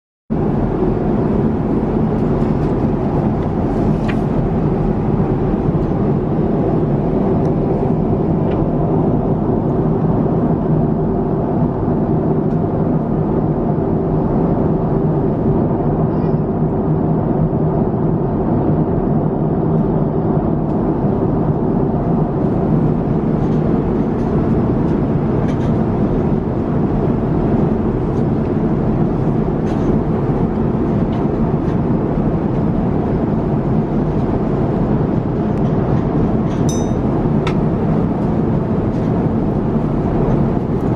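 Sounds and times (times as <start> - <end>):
airliner cabin drone: 0.3 - 40.9.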